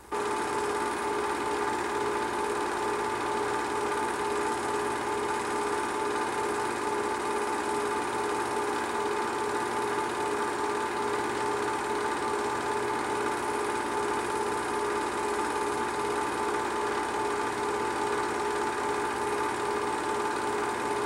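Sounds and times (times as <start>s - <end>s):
film projector whirring and clattering: 0.0s - 21.0s.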